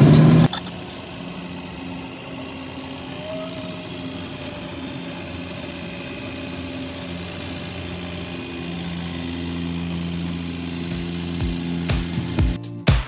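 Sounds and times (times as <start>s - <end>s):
propeller engine running: 0.0s - 13.0s.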